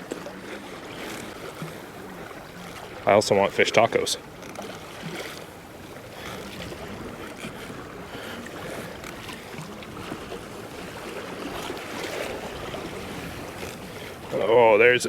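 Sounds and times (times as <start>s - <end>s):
water splashing against kayak hull: 0.0s - 15.0s
wind: 0.0s - 15.0s.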